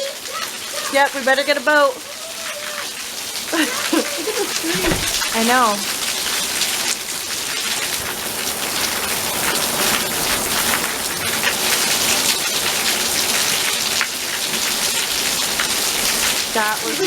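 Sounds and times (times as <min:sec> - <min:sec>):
heavy rain hissing: 0:00.0 - 0:17.0
raindrops pattering: 0:00.0 - 0:17.0.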